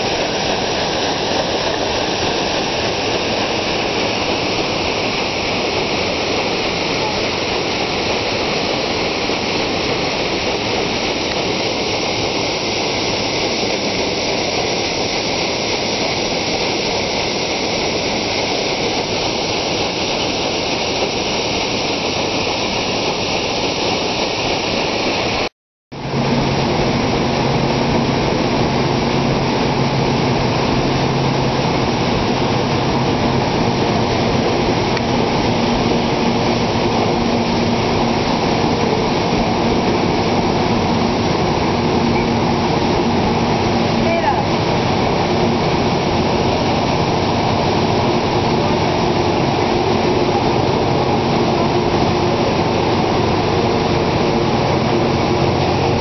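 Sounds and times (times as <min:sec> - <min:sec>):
engine-room machinery running: 0:00.0 - 0:56.0
paddle wheel splashing through water: 0:00.0 - 0:56.0.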